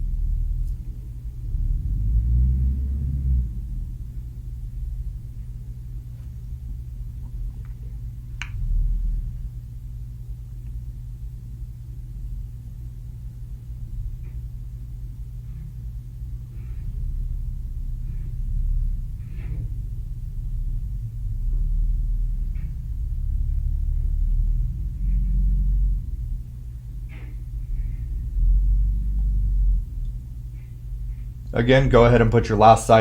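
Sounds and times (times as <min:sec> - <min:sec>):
folding machine drive hum: 0:00.0 - 0:33.0.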